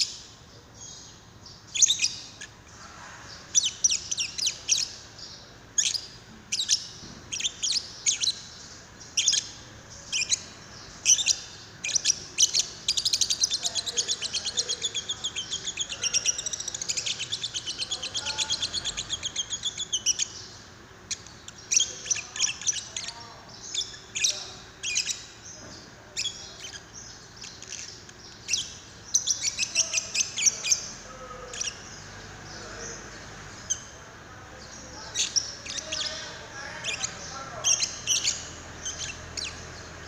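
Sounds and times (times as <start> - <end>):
lovebird chirping: 0.0 - 40.0.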